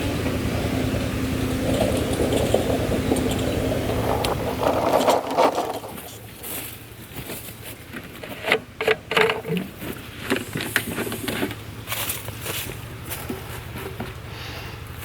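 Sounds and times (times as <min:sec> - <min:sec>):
lawnmower engine running: 0:00.0 - 0:15.0
mower handling clicks and scrapes: 0:01.6 - 0:14.3.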